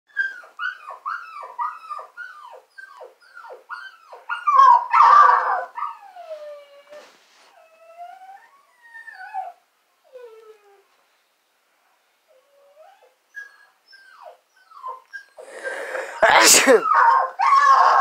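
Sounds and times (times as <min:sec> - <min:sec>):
dog whining: 0:00.1 - 0:10.9, 0:12.3 - 0:18.0.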